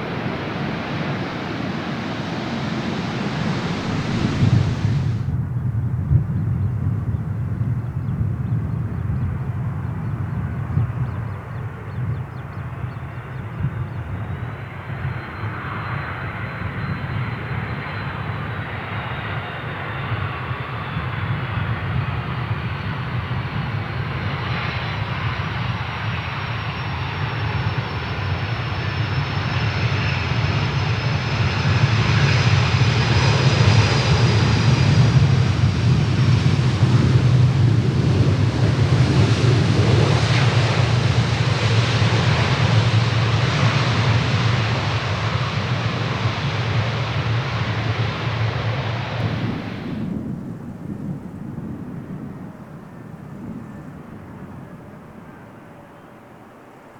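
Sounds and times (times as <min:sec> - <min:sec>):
jet engines whining: 0:00.0 - 0:05.4, 0:14.4 - 0:56.9
jet engine rumble: 0:00.0 - 0:56.9.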